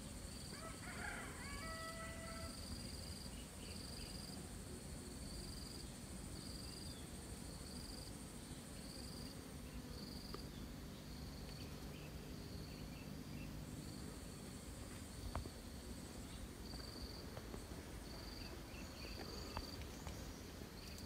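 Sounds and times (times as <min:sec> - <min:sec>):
insect buzzing trill: 0:00.0 - 0:21.0.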